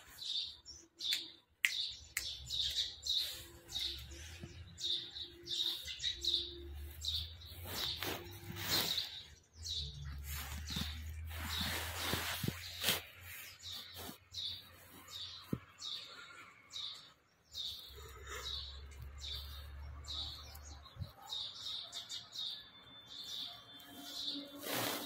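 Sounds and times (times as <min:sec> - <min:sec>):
bird chirping: 0:00.0 - 0:25.0.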